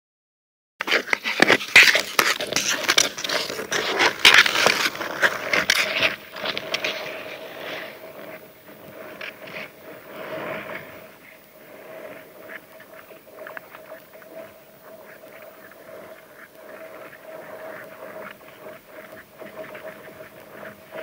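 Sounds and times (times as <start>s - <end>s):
ice skate blades scraping ice: 0.8s - 21.0s.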